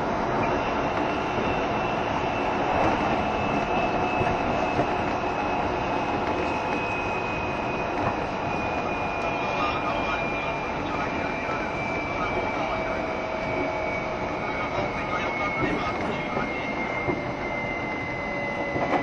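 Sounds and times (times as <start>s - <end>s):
train wheels rumbling: 0.0s - 19.0s
faint high whine: 0.4s - 18.8s.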